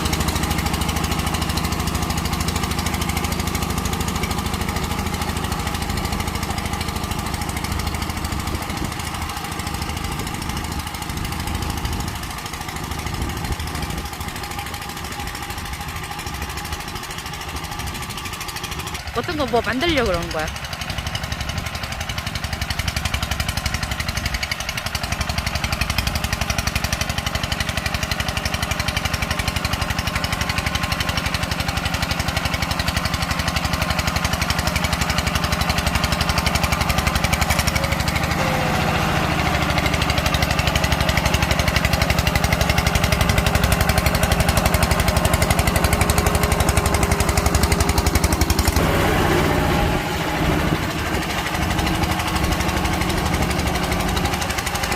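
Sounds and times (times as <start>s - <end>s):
diesel tiller engine chugging: 0.0s - 54.9s.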